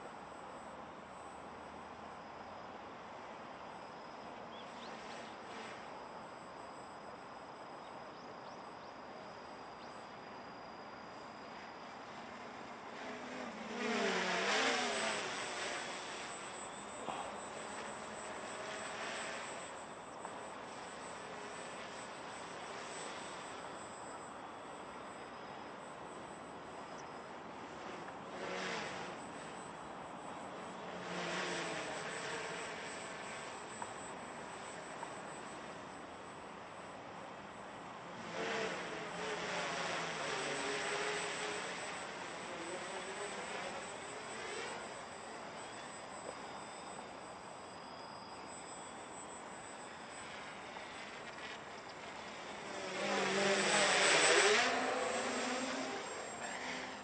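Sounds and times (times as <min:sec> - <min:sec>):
quadcopter propellers buzzing: 0:00.6 - 0:06.9, 0:09.4 - 0:57.0.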